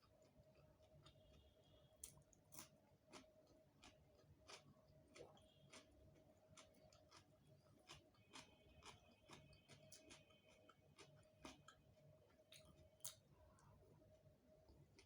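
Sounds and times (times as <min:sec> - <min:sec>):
chewing and mouth noises: 0:00.0 - 0:13.7
faint steady hum: 0:00.0 - 0:15.0.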